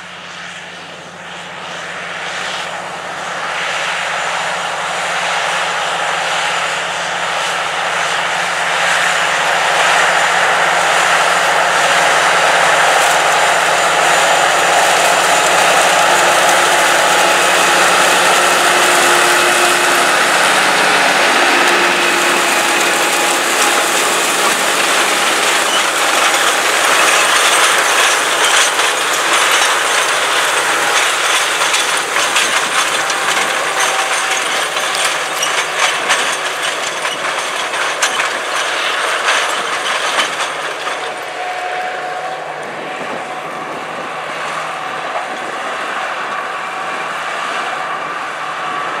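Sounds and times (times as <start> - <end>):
tractor diesel engine pulling: 0.0 - 49.0.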